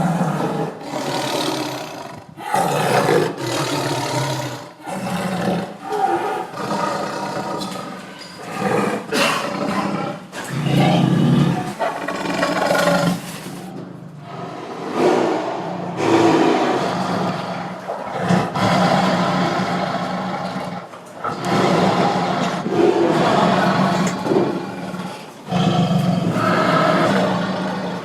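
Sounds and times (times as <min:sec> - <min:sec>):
tiger roaring: 0:00.0 - 0:28.0.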